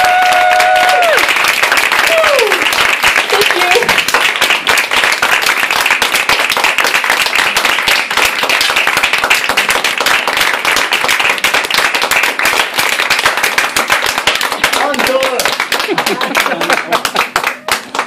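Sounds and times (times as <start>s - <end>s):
audience clapping: 0.0s - 18.0s.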